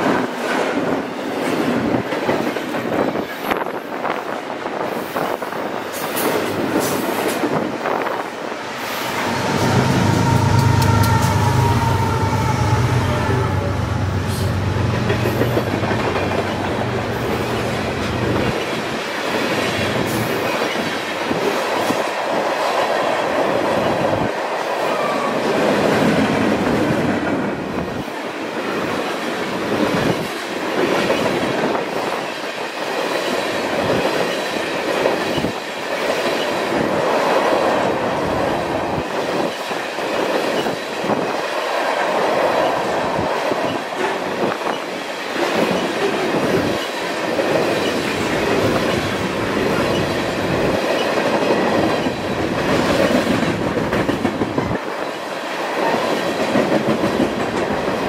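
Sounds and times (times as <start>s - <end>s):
train wheels rumbling and clicking: 0.0s - 12.6s, 14.1s - 58.0s.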